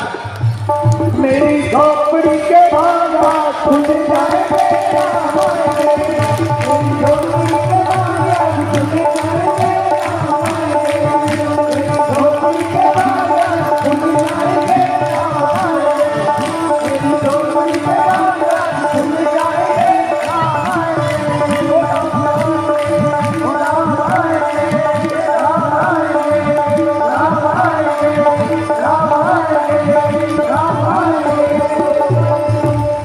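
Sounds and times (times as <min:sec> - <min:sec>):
devotional song over loudspeakers: 0:00.0 - 0:33.0
person singing: 0:00.0 - 0:33.0
tabla strokes: 0:00.0 - 0:33.0.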